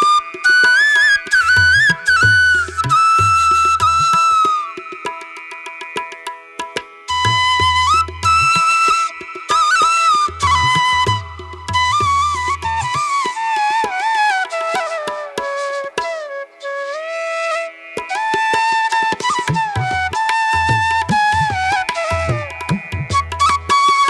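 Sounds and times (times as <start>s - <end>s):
flute melody: 0.0s - 5.2s, 7.1s - 24.0s
hand drum percussion: 0.0s - 13.9s, 18.6s - 24.0s.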